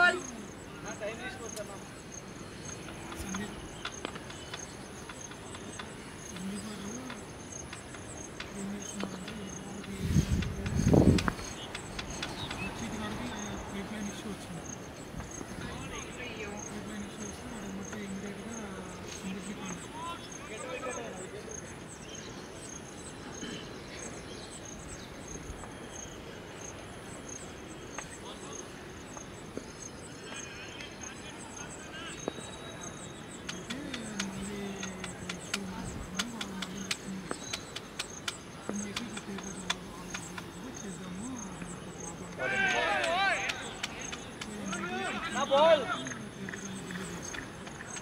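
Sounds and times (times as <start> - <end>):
faint distant voices: 0.0 - 48.0
insects chirping: 0.0 - 48.0
outdoor background noise: 0.0 - 48.0.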